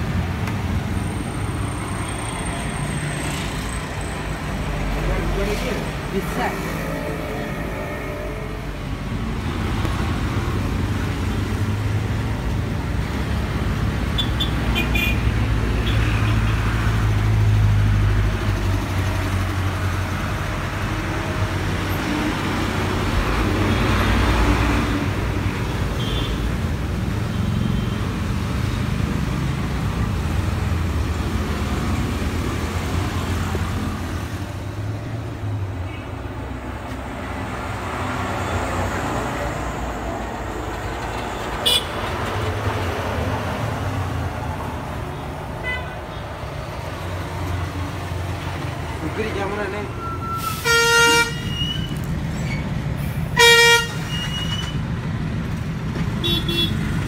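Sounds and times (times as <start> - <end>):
roadside traffic noise: 0.0 - 57.0
vehicles passing close by: 0.0 - 57.0.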